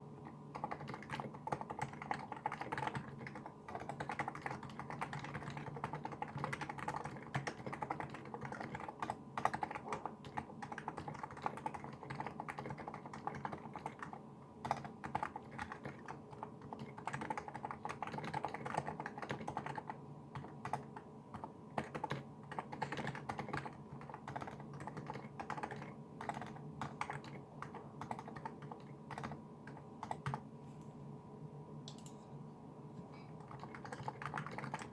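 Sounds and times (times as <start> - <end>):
keyboard typing: 0.2 - 30.5, 31.9 - 32.2, 33.4 - 34.9.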